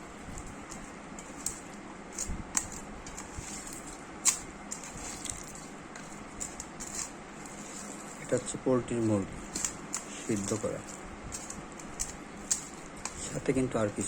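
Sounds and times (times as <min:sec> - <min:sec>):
food squishing by hand: 0:00.0 - 0:14.0.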